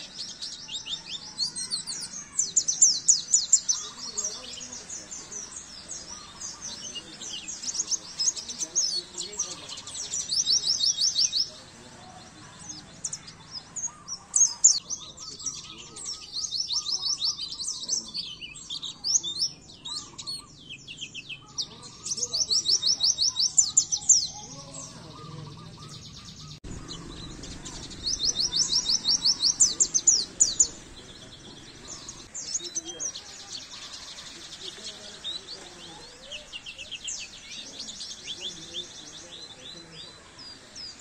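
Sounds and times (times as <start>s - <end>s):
bird chirping trills: 0.0s - 41.0s
soft bird chirps: 0.0s - 41.0s.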